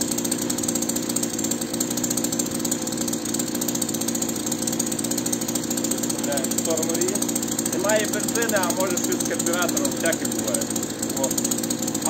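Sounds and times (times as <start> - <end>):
chainsaw engine idling: 0.0 - 12.0.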